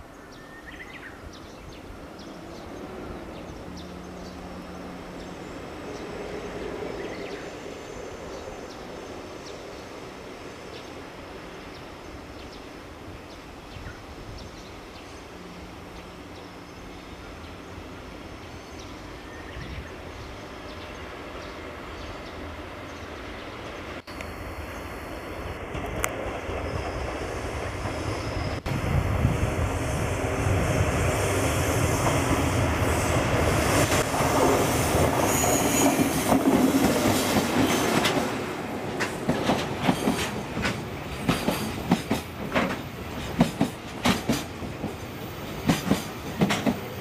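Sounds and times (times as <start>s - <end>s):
train wheels rumbling on rails: 0.9s - 47.0s.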